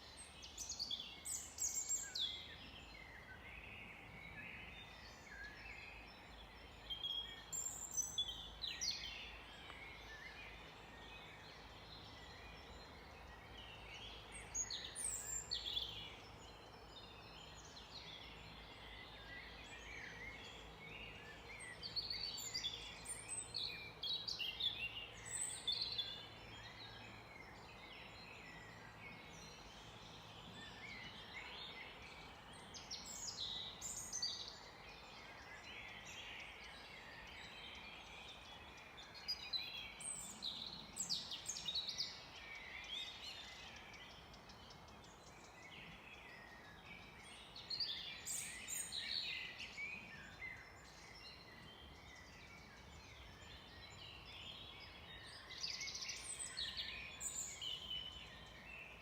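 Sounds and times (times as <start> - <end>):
faint forest background hiss: 0.0 - 59.0
small birds singing and chirping: 0.0 - 59.0.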